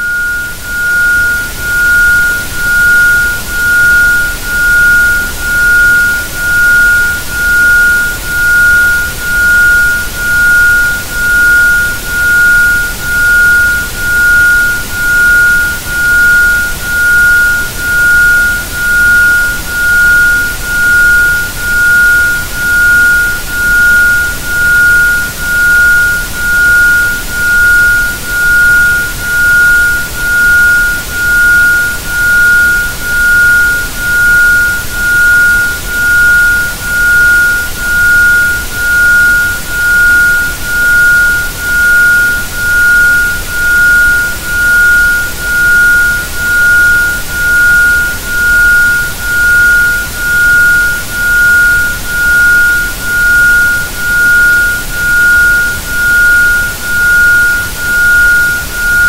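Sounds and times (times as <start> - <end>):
pulsing sine tone: 0.0 - 59.0.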